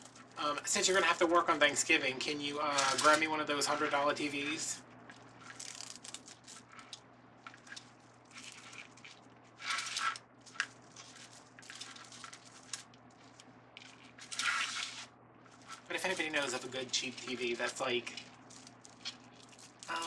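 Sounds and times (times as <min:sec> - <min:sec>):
mesh rustling and crinkling: 0:00.0 - 0:20.0.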